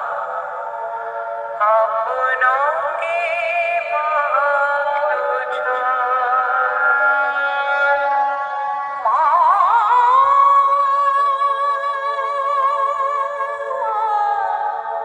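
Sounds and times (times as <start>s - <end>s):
person singing over loudspeakers: 0.0s - 15.0s.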